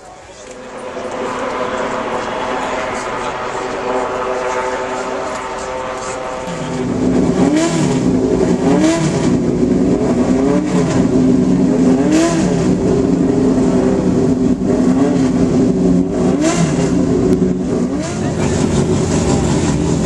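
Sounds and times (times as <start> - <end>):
racing car engine throttle blips: 0.0 - 20.0.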